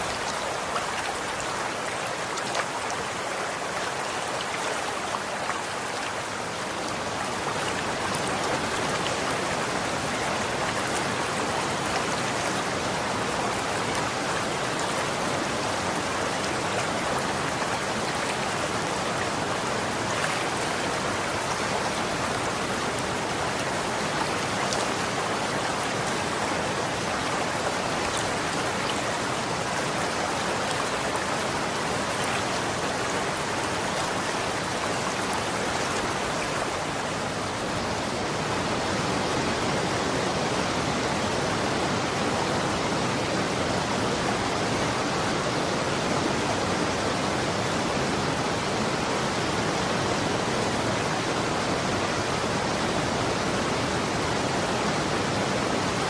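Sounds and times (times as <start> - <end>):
flowing water with splashes: 0.0 - 56.0.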